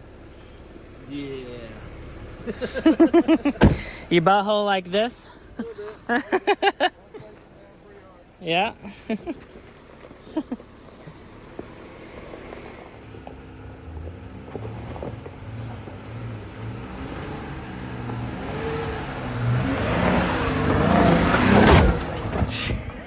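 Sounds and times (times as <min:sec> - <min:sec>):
truck engine under throttle: 0:00.0 - 0:23.0
truck jolting: 0:00.0 - 0:23.0
tyre and trail noise: 0:00.0 - 0:23.0.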